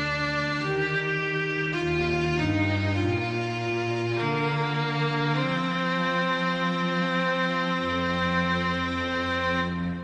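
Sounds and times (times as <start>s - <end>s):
sustained background music: 0.0s - 10.0s.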